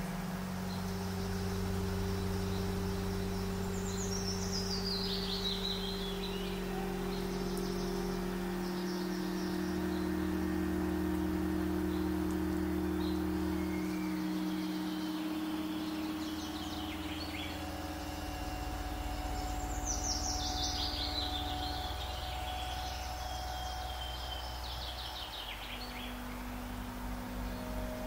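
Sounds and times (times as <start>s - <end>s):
sustained low drone: 0.0s - 28.0s.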